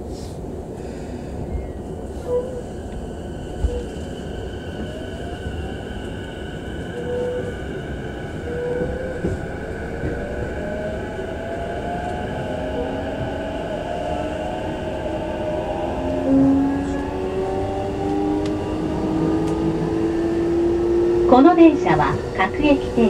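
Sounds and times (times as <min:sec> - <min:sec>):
train running rumble: 0:00.0 - 0:23.0
electric train motor whine: 0:02.4 - 0:23.0.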